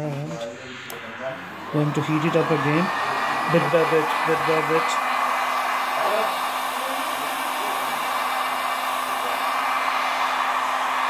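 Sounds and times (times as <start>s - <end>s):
heat gun blowing air: 0.7s - 11.0s.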